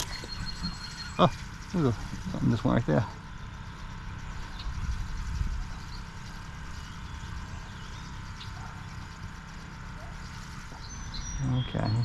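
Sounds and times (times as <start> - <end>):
faint high chirps: 0.0 - 12.0
low steady rumble: 0.0 - 12.0.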